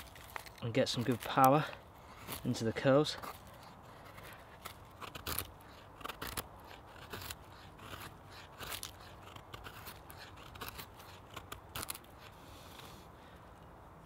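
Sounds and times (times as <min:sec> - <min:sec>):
knife scraping wooden stick: 0:00.0 - 0:13.1.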